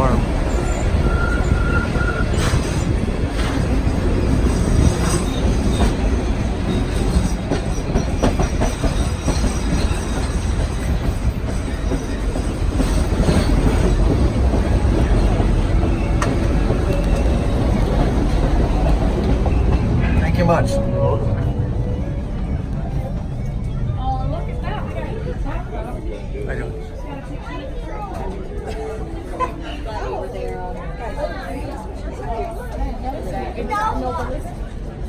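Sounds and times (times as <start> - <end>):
train rumbling on track: 0.0 - 35.0.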